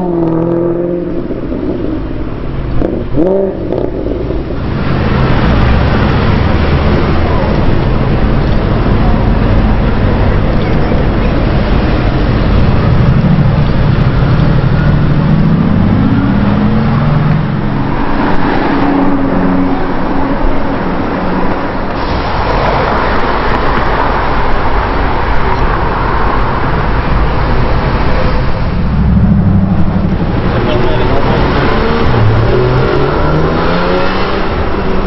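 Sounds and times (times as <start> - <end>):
car engine revving: 0.0 - 35.0
traffic noise: 0.0 - 35.0.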